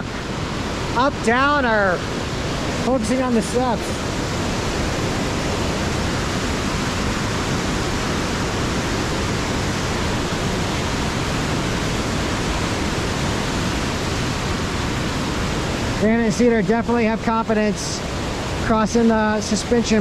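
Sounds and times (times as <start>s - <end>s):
river rushing through rapids: 0.0s - 20.0s.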